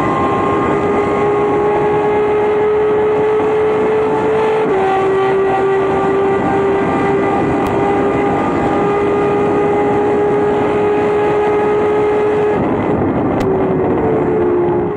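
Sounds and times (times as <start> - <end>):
race car engine at high revs: 0.0 - 14.9
wind and road noise: 0.0 - 14.9.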